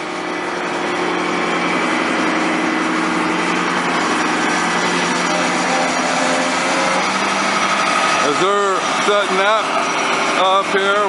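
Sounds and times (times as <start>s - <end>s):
small gasoline pump engines: 0.0s - 11.0s.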